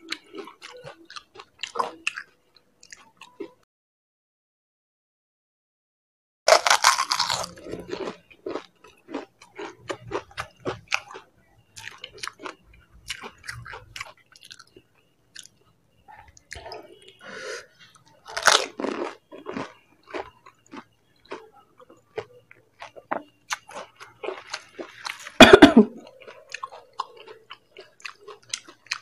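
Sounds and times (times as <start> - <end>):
chewing crisp fried shells: 0.0 - 3.6, 6.5 - 29.0.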